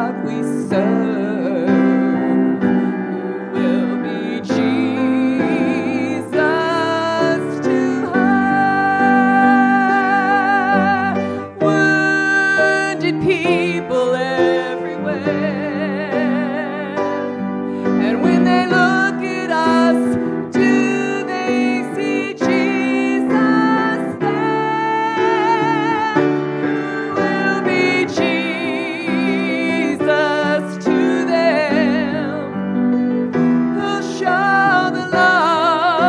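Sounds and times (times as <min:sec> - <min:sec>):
woman singing with vibrato: 0:00.0 - 0:32.8, 0:33.6 - 0:36.0
grand piano: 0:00.0 - 0:36.0.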